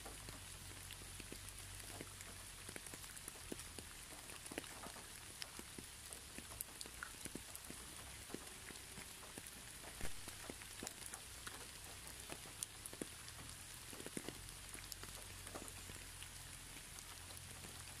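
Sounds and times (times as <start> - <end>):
light rain on plants: 0.0 - 18.0
raindrops ticking: 0.0 - 18.0.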